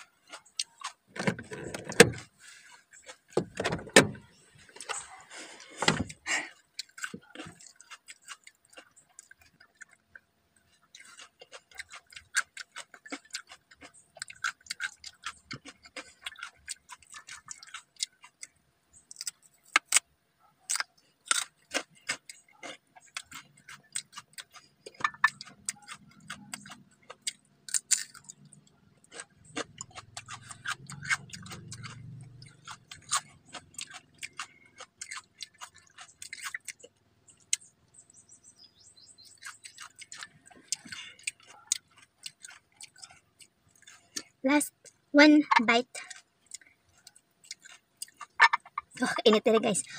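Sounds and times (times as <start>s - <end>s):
chewing and crunching raw vegetables: 0.0s - 49.9s.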